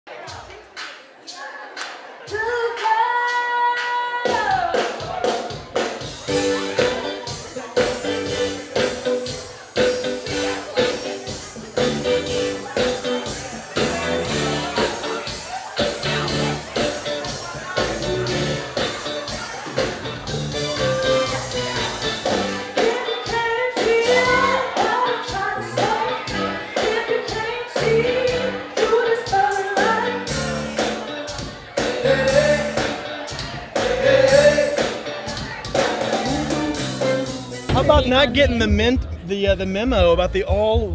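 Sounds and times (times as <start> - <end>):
singing voice: 0.1 - 40.9
band playing a steady beat: 0.2 - 40.9.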